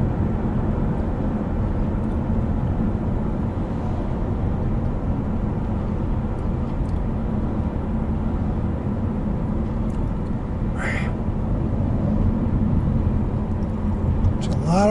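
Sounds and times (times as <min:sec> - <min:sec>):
car road and engine noise: 0:00.0 - 0:14.9.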